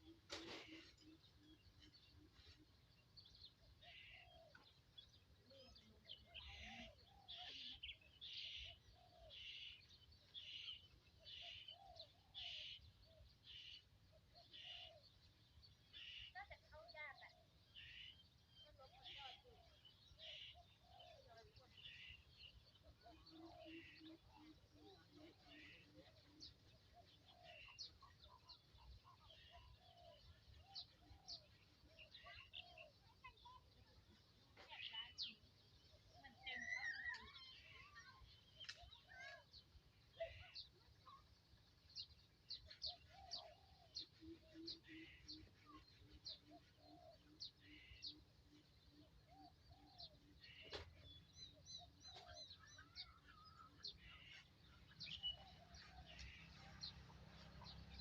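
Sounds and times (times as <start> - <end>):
faint bird calls: 0.0 - 15.2, 15.9 - 58.0.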